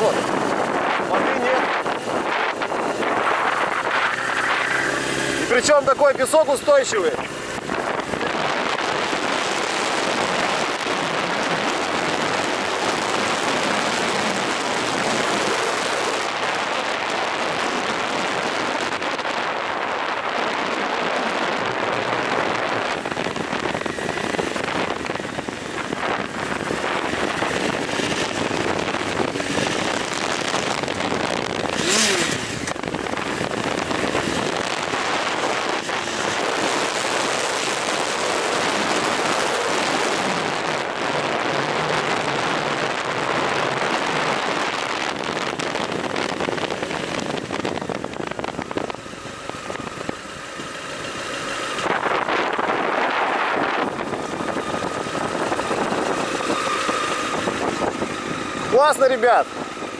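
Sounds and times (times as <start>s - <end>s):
motorcycle engine running hard: 0.0s - 59.9s
wind noise: 0.0s - 59.9s.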